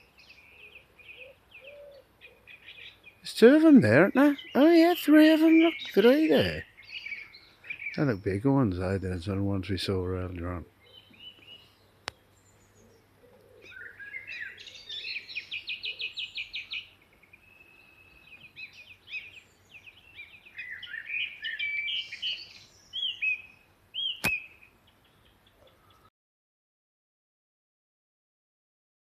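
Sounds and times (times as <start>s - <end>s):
songbirds singing: 0.0s - 26.1s.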